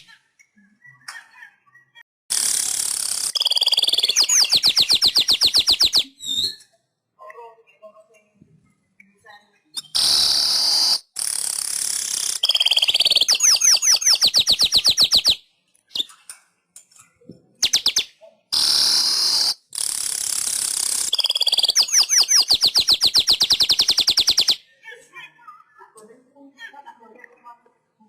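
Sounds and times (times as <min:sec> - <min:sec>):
bird song buzzy wheeze and chatter: 0:00.0 - 0:06.8, 0:08.5 - 0:16.3, 0:16.9 - 0:25.2.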